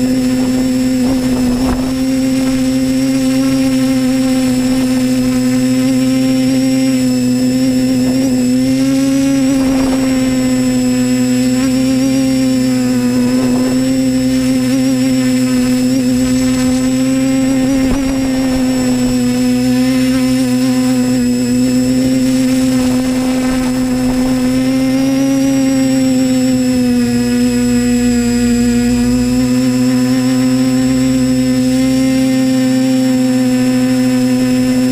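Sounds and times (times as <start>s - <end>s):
drone propellers humming: 0.0s - 34.9s.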